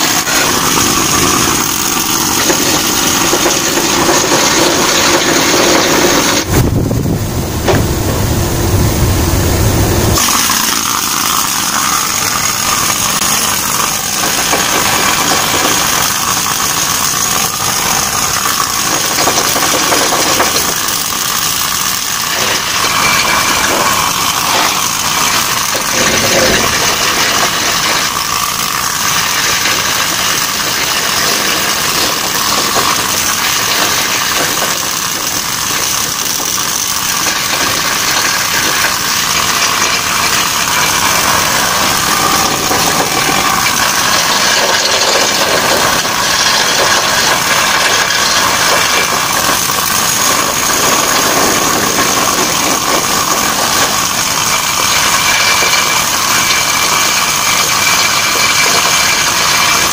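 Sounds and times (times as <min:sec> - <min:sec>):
pneumatic chipping tool on metal: 0:00.0 - 0:08.9, 0:10.1 - 0:59.9.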